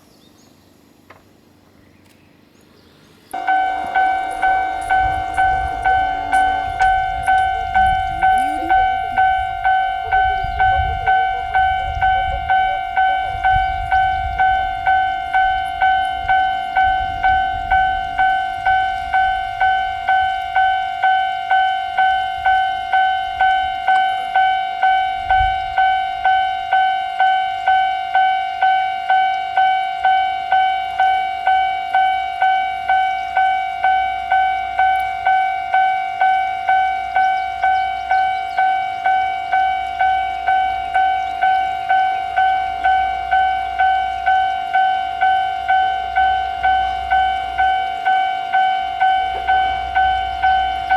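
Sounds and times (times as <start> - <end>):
railroad crossing warning bell: 3.3 - 50.9.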